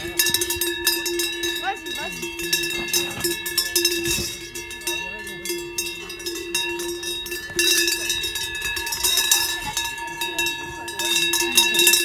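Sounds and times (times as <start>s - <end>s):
cowbells ringing and clanking: 0.0s - 12.0s.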